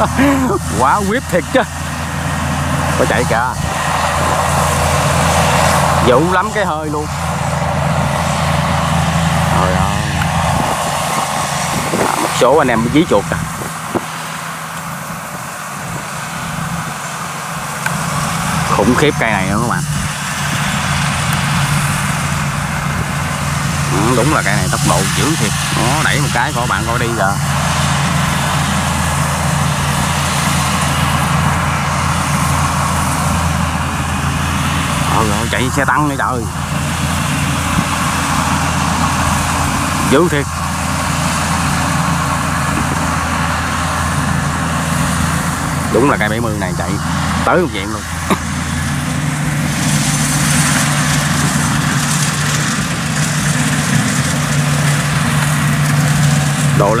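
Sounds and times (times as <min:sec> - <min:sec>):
combine harvester engine drone: 0:00.0 - 0:57.0
even rushing noise: 0:00.0 - 0:57.0.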